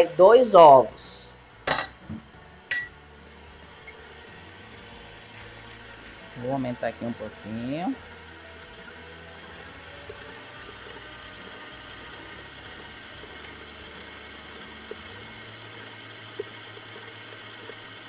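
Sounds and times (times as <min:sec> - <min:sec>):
electric stand mixer running: 0:03.0 - 0:18.0.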